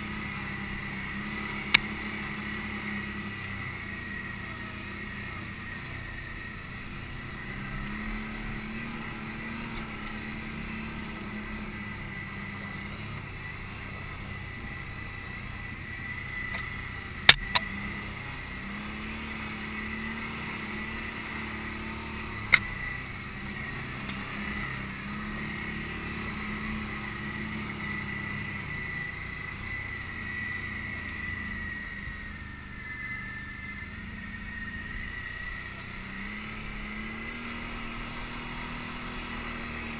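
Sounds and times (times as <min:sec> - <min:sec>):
atv engine revving: 0:00.0 - 0:39.9
high whine: 0:00.0 - 0:39.9.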